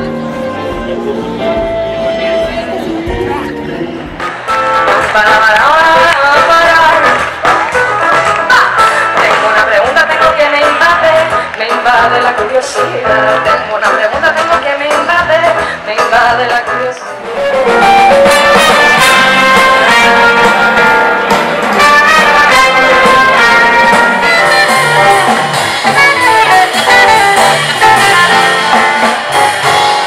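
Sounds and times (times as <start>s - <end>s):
jazz big band playing: 0.0s - 30.0s
snippet of different song: 0.0s - 30.0s.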